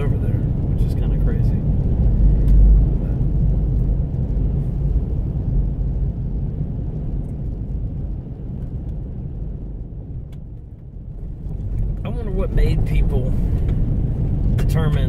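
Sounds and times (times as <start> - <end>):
vehicle rumbling on gravel road: 0.0 - 15.0.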